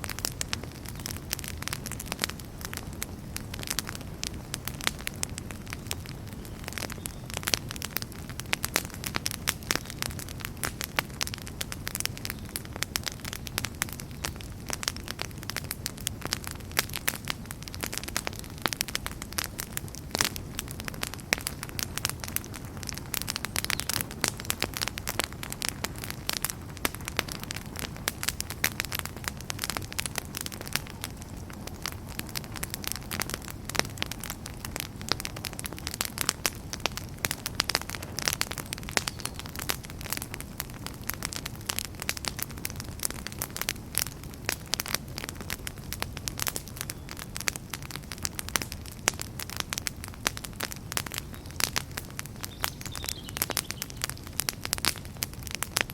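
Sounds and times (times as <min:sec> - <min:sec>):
fire crackling and popping: 0:00.0 - 0:55.9.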